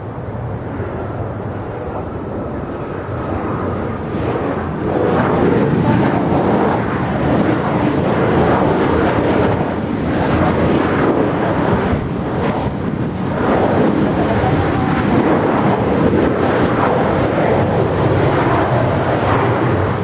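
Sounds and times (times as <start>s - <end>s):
jet engine rumbling: 0.0s - 20.0s.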